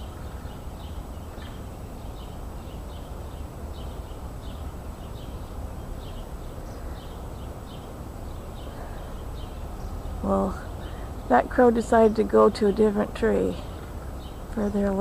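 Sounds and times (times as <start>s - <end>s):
bird chirping: 0.0s - 15.0s
low outdoor rumble: 0.0s - 15.0s.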